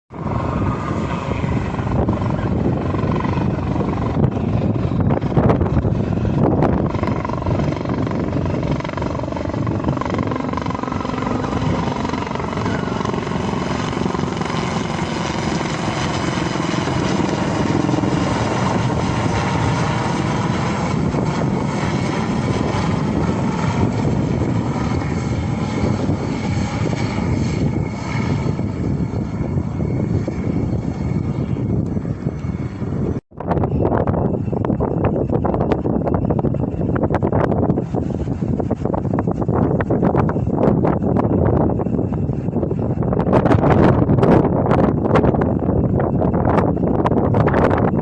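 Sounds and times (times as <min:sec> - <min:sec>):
jet engines roaring and whining: 0:00.1 - 0:48.0.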